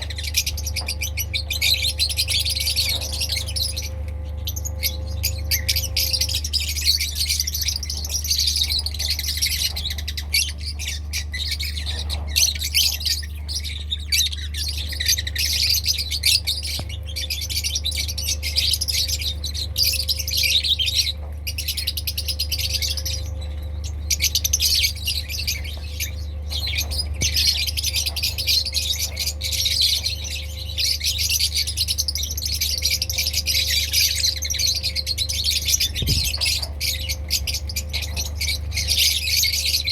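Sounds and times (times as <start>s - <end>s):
lovebirds chattering and squawking: 0.0s - 39.9s
steady low hum: 0.0s - 39.9s.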